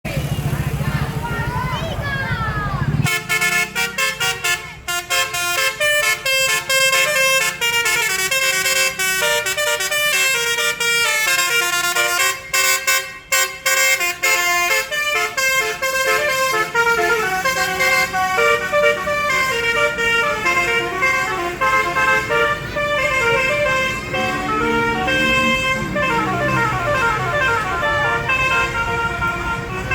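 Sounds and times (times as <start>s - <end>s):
musical bus horn playing a tune: 3.1s - 29.9s.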